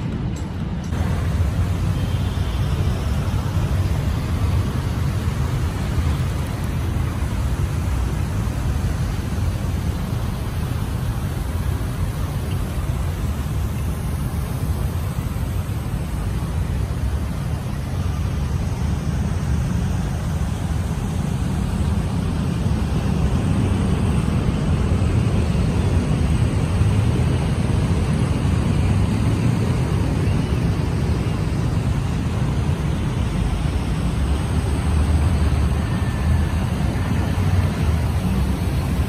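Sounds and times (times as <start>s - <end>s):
city road traffic rumble: 0.0s - 39.0s.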